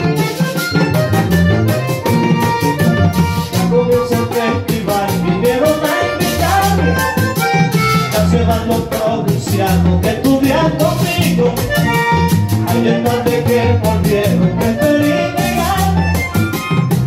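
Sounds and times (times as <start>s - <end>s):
bass guitar line: 0.0s - 17.0s
button accordion melody: 0.0s - 17.0s.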